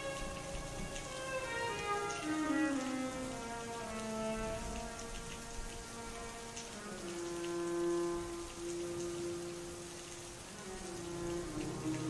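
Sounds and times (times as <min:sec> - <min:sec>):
rain pattering: 0:00.0 - 0:12.0
recorded classical music: 0:00.0 - 0:12.0.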